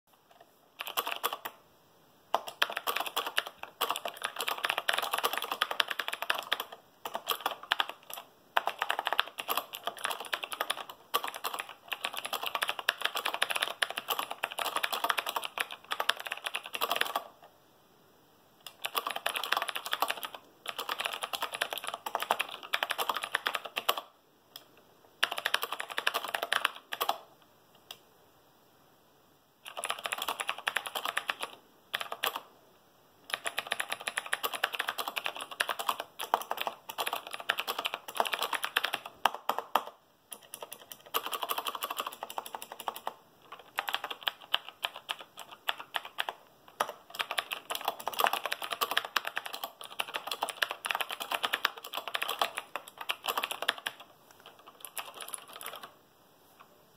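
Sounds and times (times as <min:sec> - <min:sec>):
mechanical keyboard typing clicks: 0:00.3 - 0:01.6, 0:02.3 - 0:17.4, 0:18.6 - 0:27.3, 0:29.7 - 0:32.5, 0:33.3 - 0:55.9.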